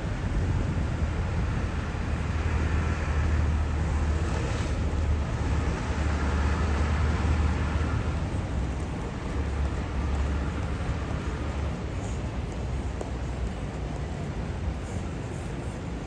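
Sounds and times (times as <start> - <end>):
low rumble of traffic: 0.0 - 16.0.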